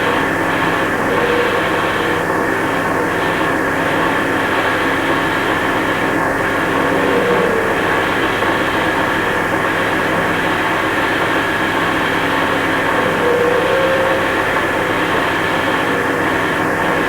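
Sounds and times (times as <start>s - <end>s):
noise music drone: 0.0s - 17.0s.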